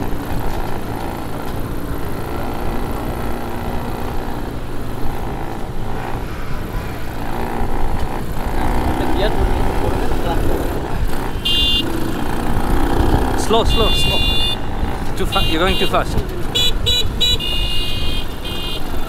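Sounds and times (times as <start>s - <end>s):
wind rumbling on microphone: 0.0s - 15.3s, 16.0s - 18.4s
quad bike engine running: 0.0s - 19.0s.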